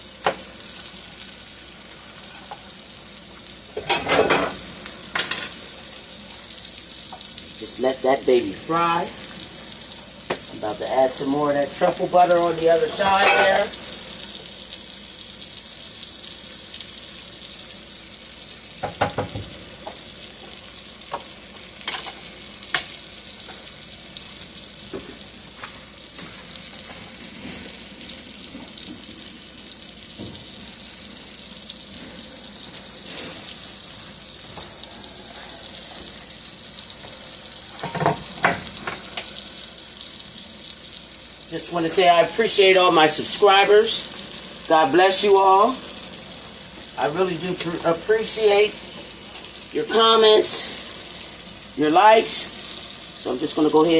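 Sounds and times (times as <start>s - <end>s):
steak sizzling in a pan: 0.0s - 53.9s.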